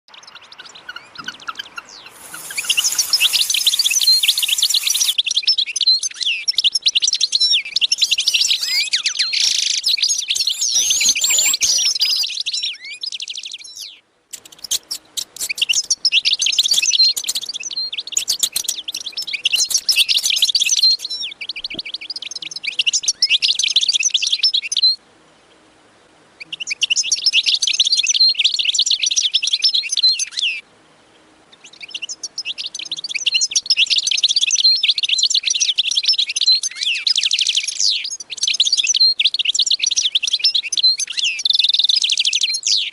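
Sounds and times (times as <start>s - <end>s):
small birds chirping: 0.1s - 25.6s, 31.2s - 42.9s.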